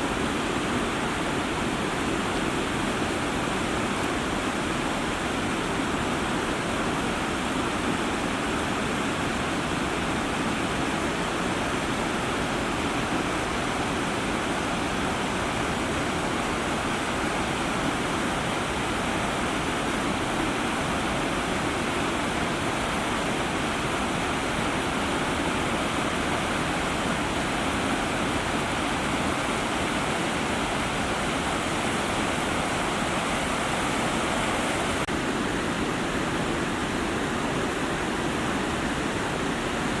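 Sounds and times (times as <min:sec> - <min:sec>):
waterfall roaring: 0:00.0 - 0:40.0.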